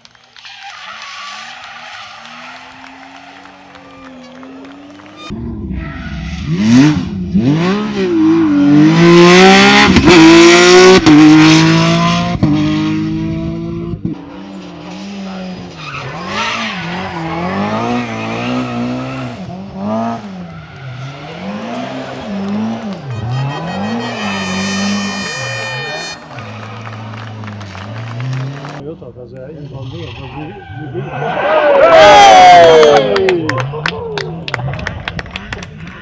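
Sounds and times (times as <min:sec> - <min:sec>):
car engine revving: 0:00.3 - 0:36.0.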